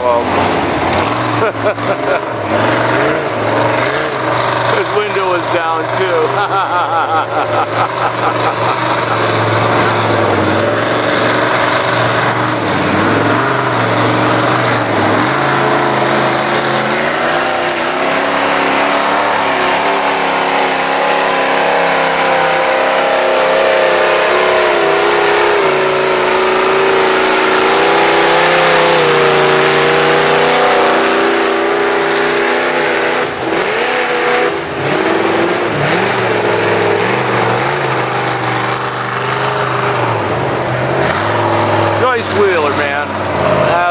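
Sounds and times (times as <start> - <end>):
off-road vehicle engine revving high: 0.0 - 43.9.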